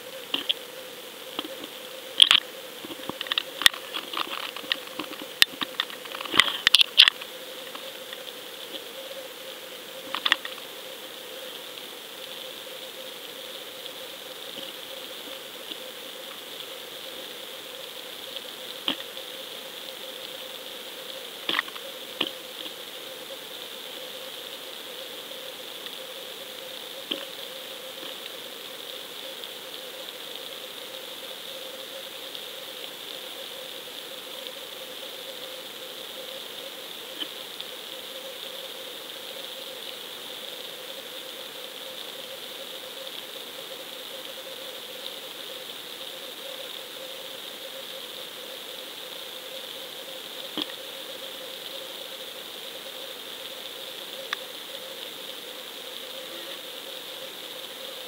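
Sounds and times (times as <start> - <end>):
underwater hiss: 1.2 - 58.0.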